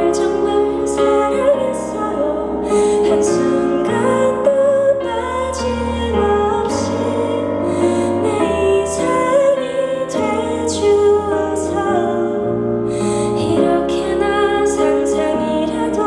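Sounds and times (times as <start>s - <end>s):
bass line: 0.0s - 16.0s
piano: 0.0s - 16.0s
woman singing: 0.0s - 16.0s.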